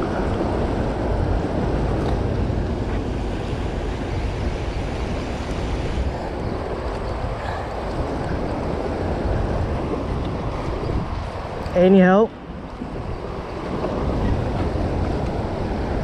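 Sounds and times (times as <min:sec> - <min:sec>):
churning water rushing: 0:00.0 - 0:16.0
wind buffeting microphone: 0:00.0 - 0:16.0.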